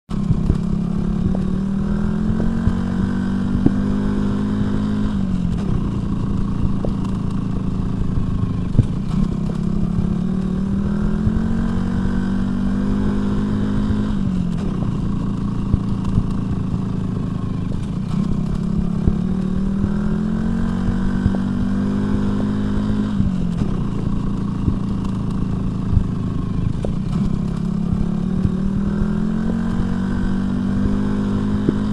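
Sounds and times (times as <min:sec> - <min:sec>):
motorcycle engine running: 0:00.1 - 0:31.9.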